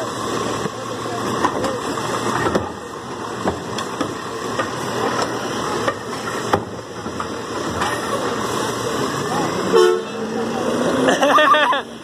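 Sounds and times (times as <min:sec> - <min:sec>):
garbage truck engine running: 0:00.0 - 0:12.0.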